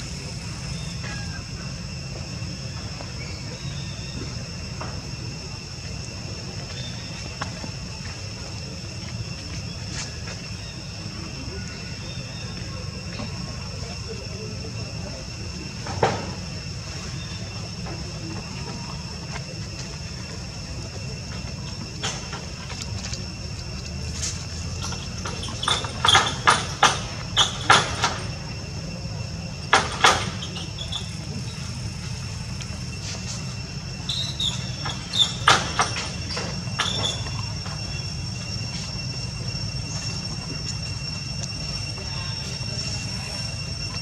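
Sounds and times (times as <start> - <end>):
high-pitched insect drone: 0.0 - 44.0.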